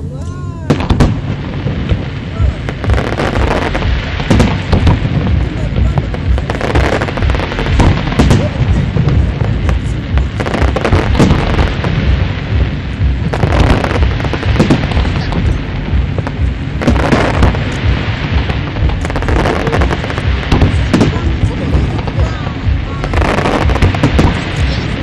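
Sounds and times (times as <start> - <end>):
constant low rumble: 0.0 - 25.0
fireworks crackling: 0.0 - 25.0
fireworks booming: 0.7 - 25.0.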